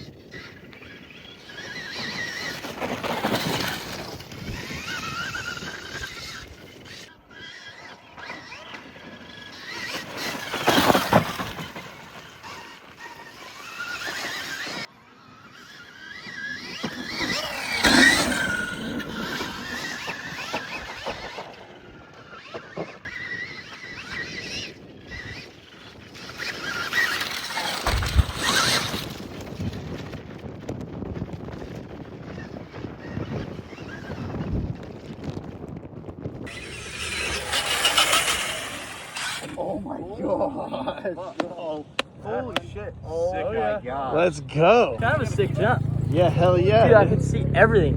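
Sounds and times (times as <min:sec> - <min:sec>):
dirt bikes passing: 0:00.0 - 0:47.9.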